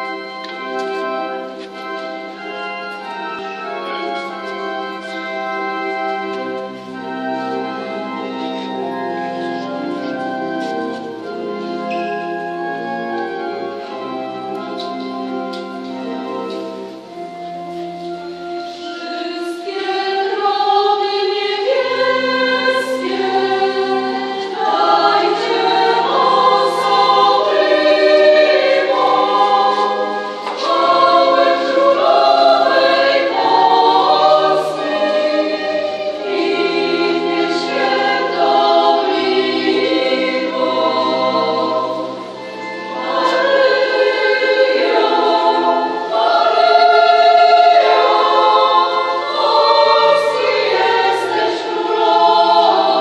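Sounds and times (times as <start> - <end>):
mixed choir singing sacred song: 0.0 - 53.0.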